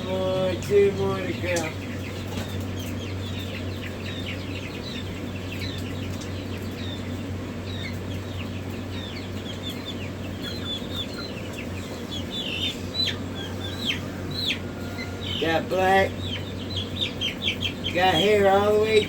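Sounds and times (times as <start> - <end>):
chicks peeping: 0.0 - 19.0
steady low hum: 0.0 - 19.0.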